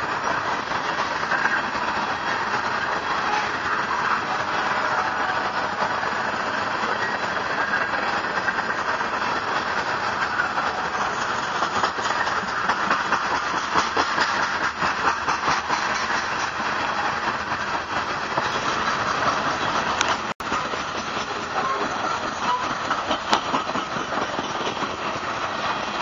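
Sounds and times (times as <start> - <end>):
freight train rolling: 0.0 - 26.0.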